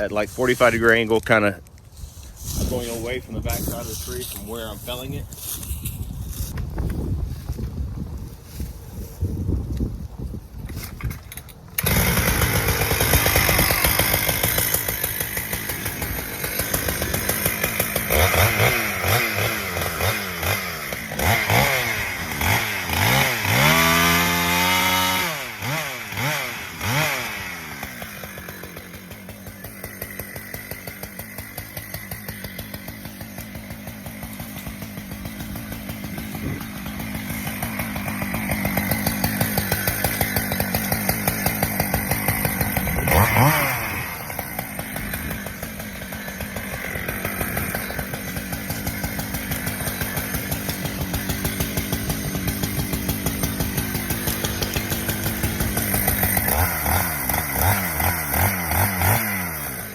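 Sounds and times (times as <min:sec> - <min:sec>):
chainsaw revving and cutting: 0:00.0 - 0:06.6, 0:11.8 - 0:59.9.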